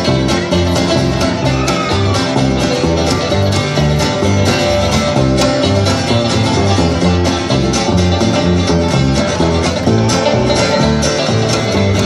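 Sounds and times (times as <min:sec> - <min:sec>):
banjo picking: 0:00.0 - 0:12.0
plucked upright bass: 0:00.0 - 0:12.0
strummed acoustic guitar: 0:00.0 - 0:12.0.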